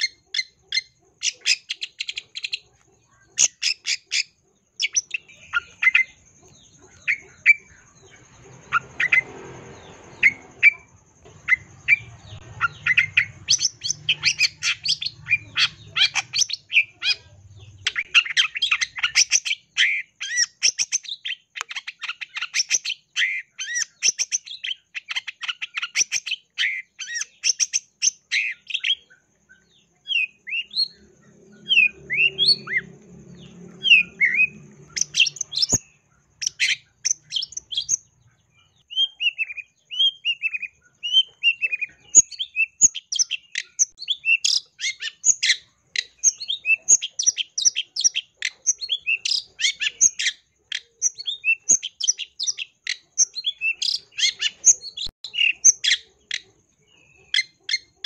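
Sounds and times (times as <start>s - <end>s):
shrike singing: 0.0s - 58.0s.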